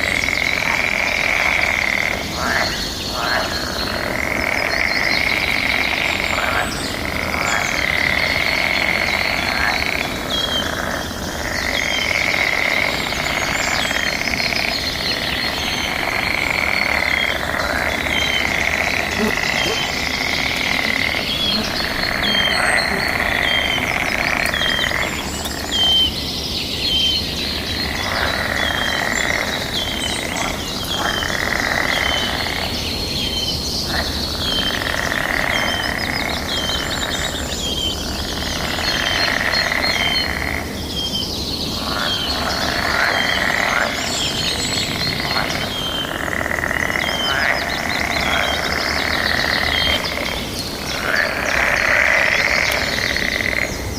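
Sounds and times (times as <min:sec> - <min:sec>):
frogs calling: 0:00.0 - 0:53.9.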